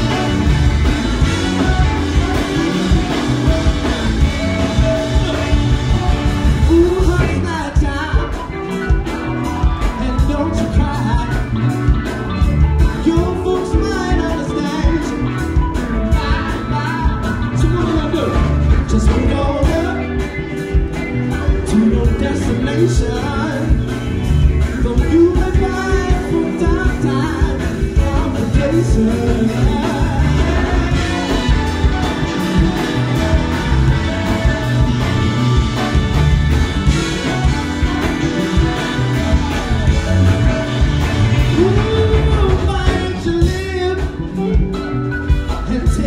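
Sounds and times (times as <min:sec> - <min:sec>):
live funk band: 0:00.0 - 0:46.0
man singing: 0:00.0 - 0:46.0.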